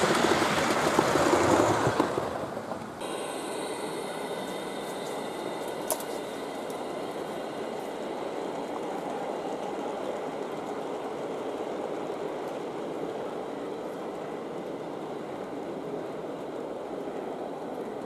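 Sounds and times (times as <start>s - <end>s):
model train wheels rumbling on rails: 0.0s - 18.0s.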